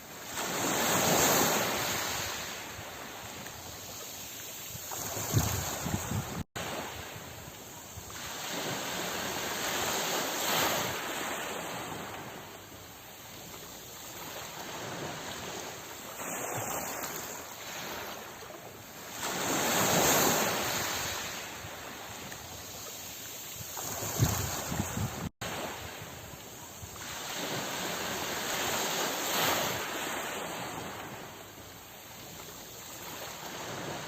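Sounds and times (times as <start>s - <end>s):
sea waves surging and washing back: 0.0s - 34.0s.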